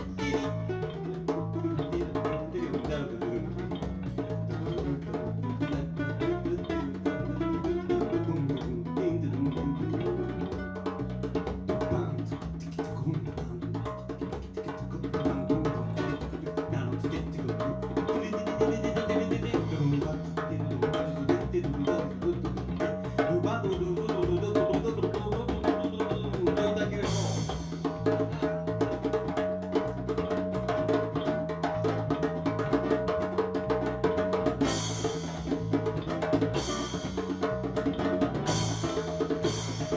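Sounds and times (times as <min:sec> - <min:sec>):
bass: 0:00.0 - 0:39.9
guitar: 0:00.0 - 0:39.9
hand percussion: 0:00.0 - 0:39.9.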